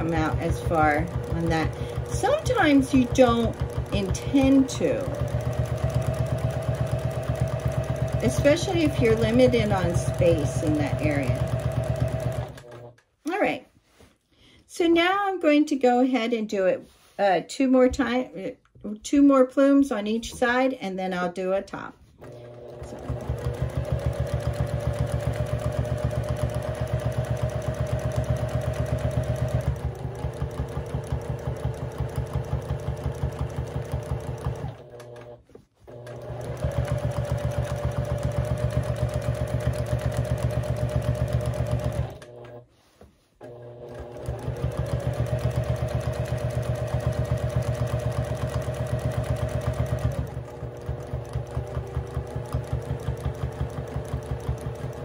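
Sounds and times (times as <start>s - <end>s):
sewing machine running: 0.0s - 13.0s, 22.2s - 42.6s, 43.4s - 55.0s.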